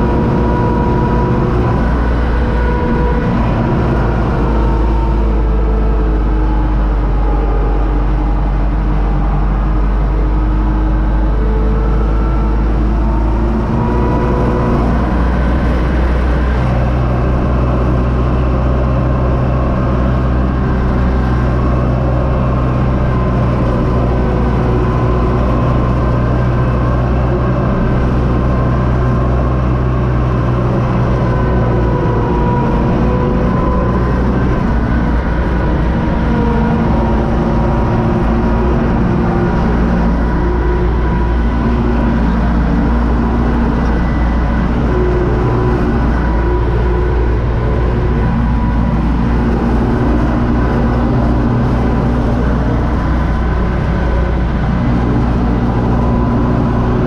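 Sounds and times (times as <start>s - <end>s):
steady whine: 0.0s - 57.0s
tractor diesel engine running: 0.0s - 57.0s.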